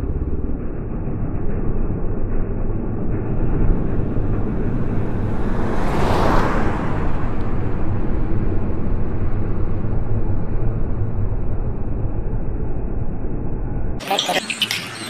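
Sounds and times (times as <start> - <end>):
truck engine pulling away: 0.0 - 12.6.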